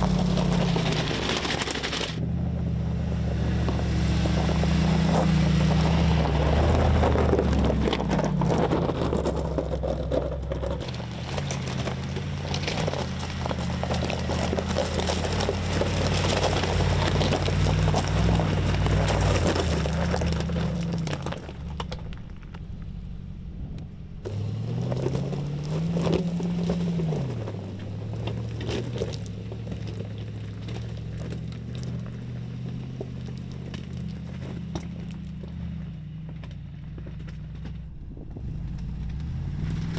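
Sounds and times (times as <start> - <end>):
engine revving: 0.0 - 21.9, 23.4 - 39.9
stones crunching under tyres: 0.0 - 23.3, 24.2 - 39.9.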